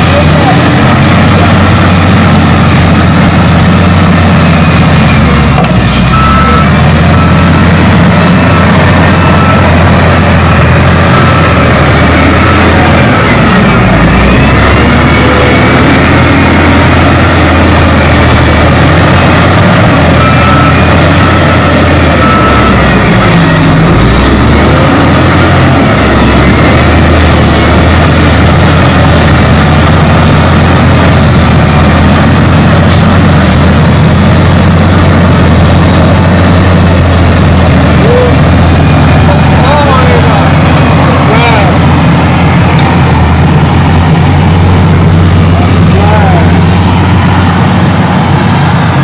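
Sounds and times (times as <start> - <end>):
wheel loader diesel engine: 0.0 - 49.0.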